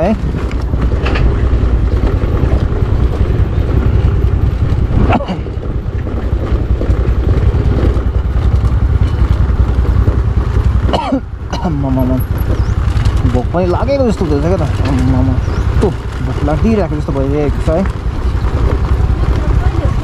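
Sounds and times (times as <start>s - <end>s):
scooter engine and road noise: 0.0s - 20.0s.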